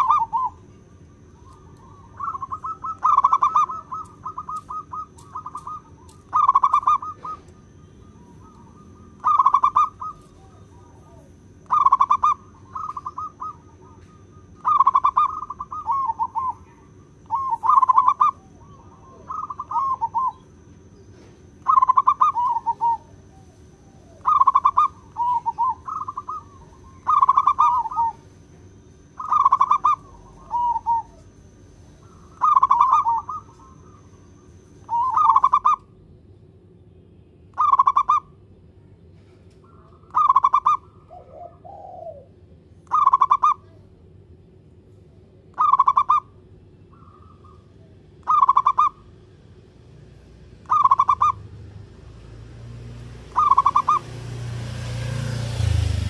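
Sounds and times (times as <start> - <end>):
dove cooing: 0.0 - 35.8, 37.6 - 38.3, 39.6 - 43.9, 45.5 - 49.2, 50.6 - 51.6, 53.2 - 55.9.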